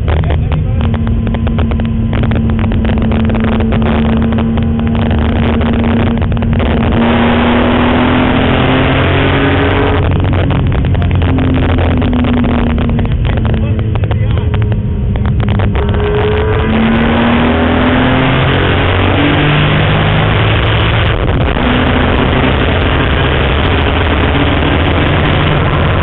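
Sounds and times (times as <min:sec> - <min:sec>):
dense rush of noise: 0:00.0 - 0:26.0
race car engine from inside cabin: 0:00.0 - 0:26.0.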